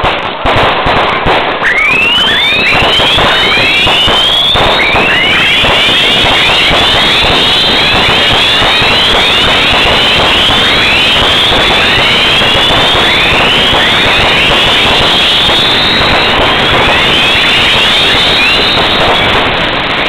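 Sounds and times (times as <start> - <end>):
fireworks hissing sparks: 0.0 - 20.0
rising firework whistles: 0.0 - 20.0.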